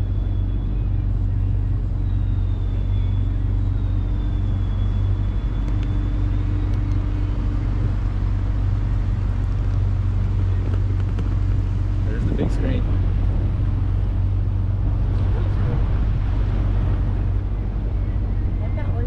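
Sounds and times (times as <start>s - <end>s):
motorboat engine drone: 0.0s - 19.0s.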